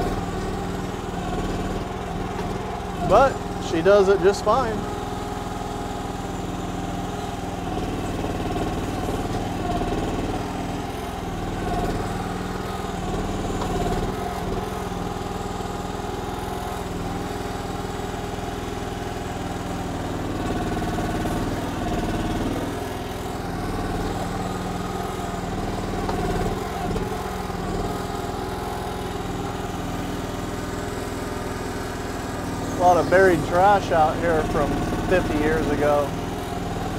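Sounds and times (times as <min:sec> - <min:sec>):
excavator engine running: 0:00.0 - 0:36.9.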